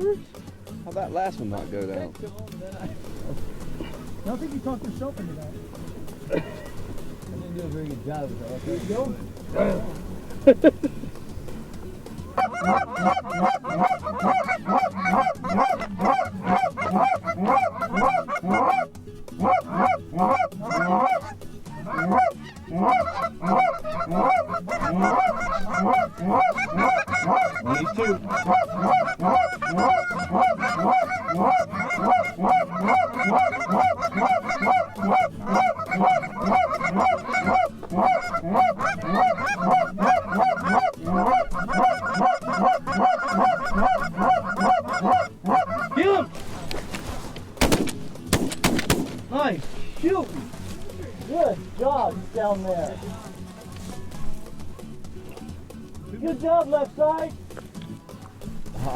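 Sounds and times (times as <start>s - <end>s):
geese honking: 2.8s - 57.3s.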